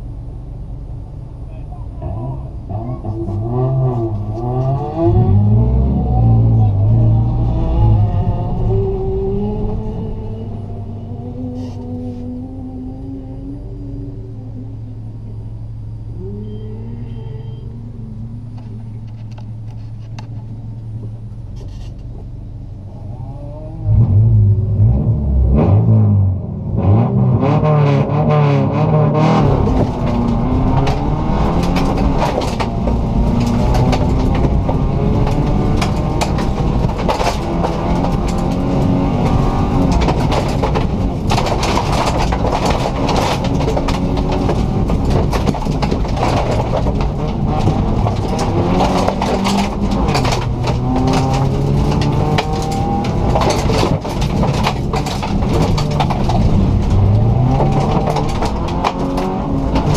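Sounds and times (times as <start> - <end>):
car engine revving: 0.9 - 21.7, 22.7 - 59.9.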